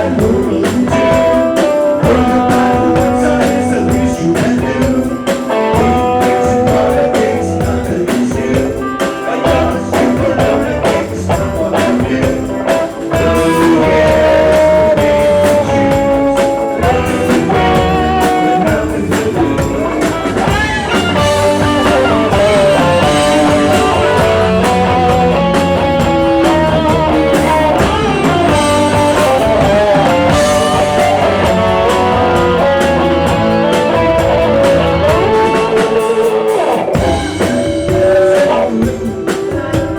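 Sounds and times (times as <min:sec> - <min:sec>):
rock music with guitar and drums: 0:00.0 - 0:39.9.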